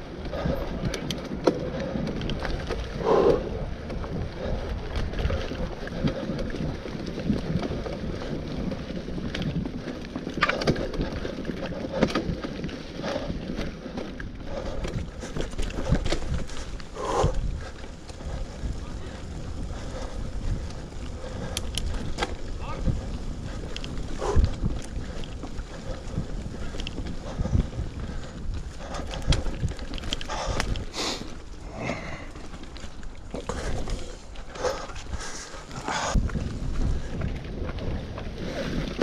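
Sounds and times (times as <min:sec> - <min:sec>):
bike rattling over bumps: 0:00.0 - 0:39.0
bike tyres rumbling on dirt trail: 0:00.0 - 0:39.0
wind on microphone: 0:00.0 - 0:39.0.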